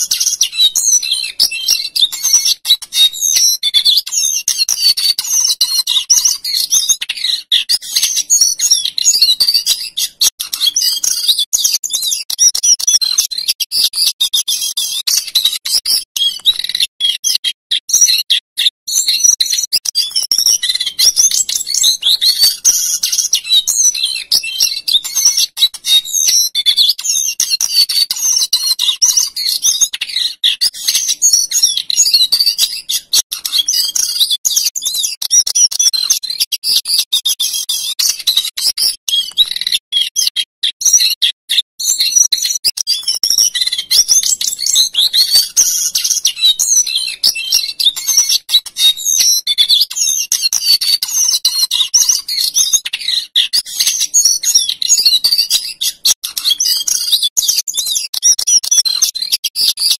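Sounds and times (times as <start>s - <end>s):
bird singing warbling song: 0.0s - 59.9s.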